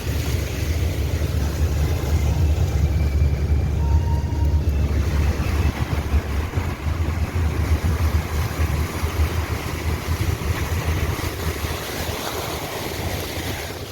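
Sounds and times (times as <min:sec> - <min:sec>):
engine and road rumble: 0:00.0 - 0:13.9
water rushing around vehicle: 0:00.0 - 0:13.9.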